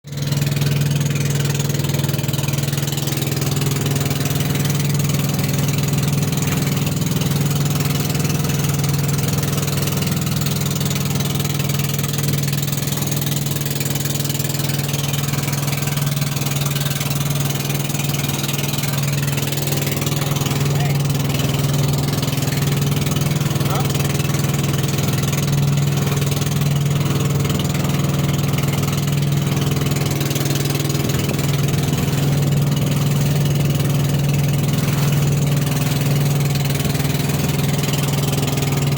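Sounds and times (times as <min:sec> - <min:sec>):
boat engine humming: 0:00.0 - 0:38.9.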